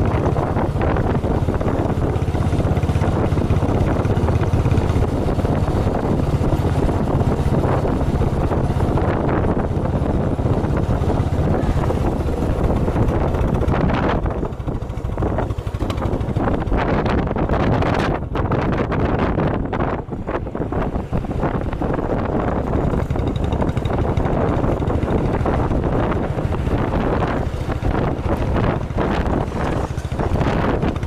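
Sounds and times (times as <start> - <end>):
steady low rumble: 0.0 - 31.0
wind buffeting microphone: 0.0 - 31.0.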